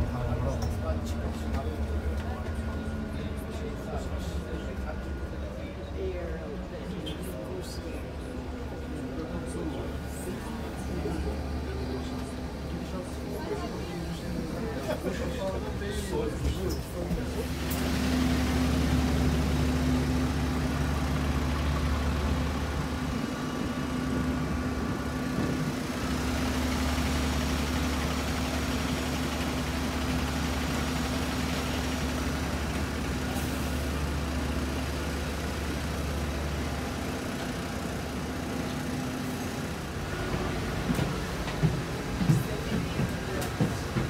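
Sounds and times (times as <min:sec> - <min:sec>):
machinery engine hum: 0:00.0 - 0:44.0.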